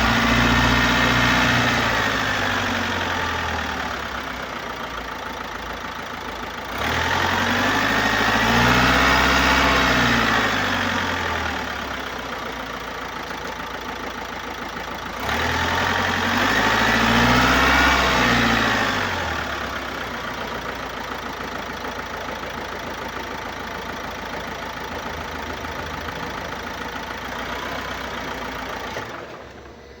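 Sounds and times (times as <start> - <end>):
diesel engine idling and revving: 0.0 - 30.0.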